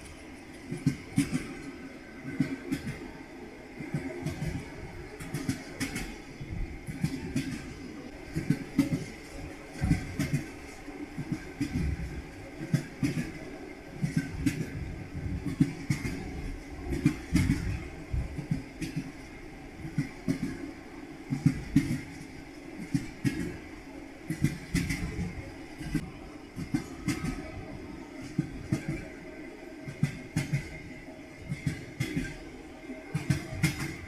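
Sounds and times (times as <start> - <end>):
train wheels clattering over rail joints: 0.0 - 3.1, 3.8 - 20.6, 21.3 - 23.7, 24.3 - 29.2, 29.9 - 32.4, 33.1 - 34.0
low rumble of moving train: 0.0 - 34.0.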